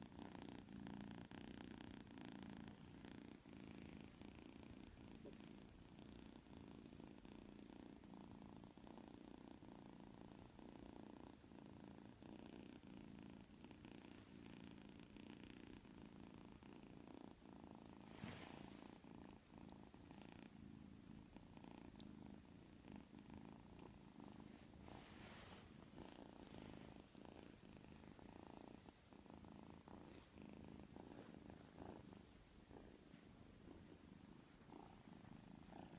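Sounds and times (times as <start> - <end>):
kitten snoring: 0.0 - 35.9.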